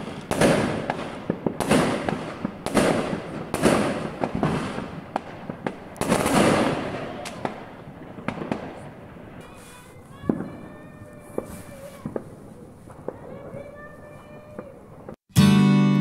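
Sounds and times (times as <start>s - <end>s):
firework pops and crackles: 0.0s - 15.2s
fireworks bangs with crackling: 0.0s - 15.2s.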